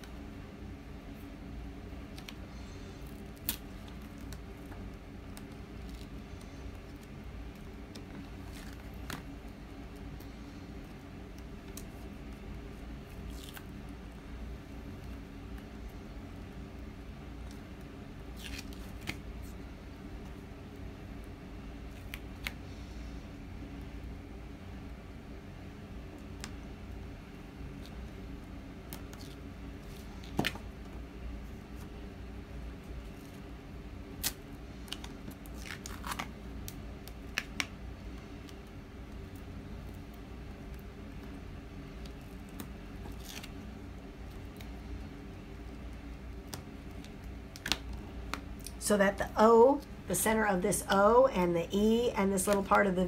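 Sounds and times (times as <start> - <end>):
steady low hum: 0.0 - 53.0
vinyl peeling ticks and crackles: 1.9 - 22.6, 26.0 - 48.8.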